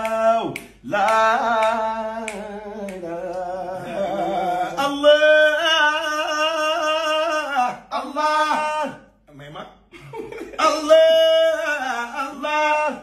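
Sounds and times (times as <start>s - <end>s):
man singing a chant: 0.0s - 9.1s, 10.6s - 13.0s.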